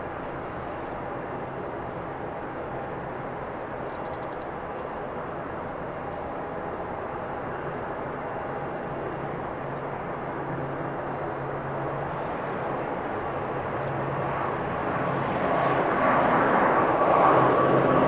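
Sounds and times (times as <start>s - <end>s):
jet engine whine: 0.0s - 18.0s.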